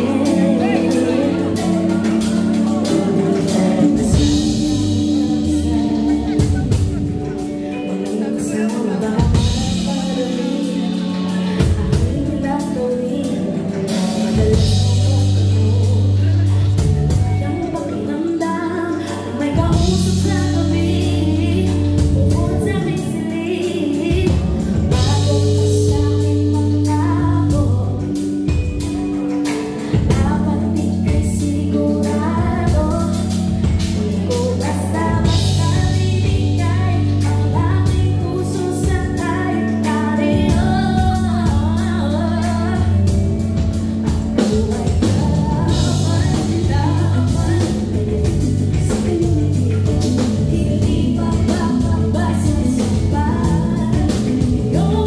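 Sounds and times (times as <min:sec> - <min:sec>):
live rock band: 0:00.0 - 0:55.0
woman singing: 0:00.0 - 0:55.0.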